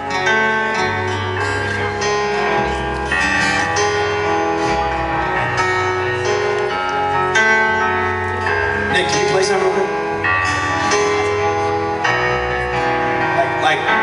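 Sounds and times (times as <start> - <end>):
instrumental music: 0.0 - 14.0.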